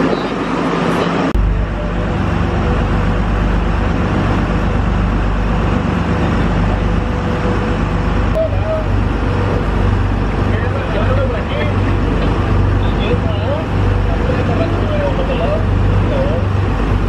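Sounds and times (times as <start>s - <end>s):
boat engine drone: 0.0s - 17.0s
rushing wake and wind: 0.0s - 17.0s.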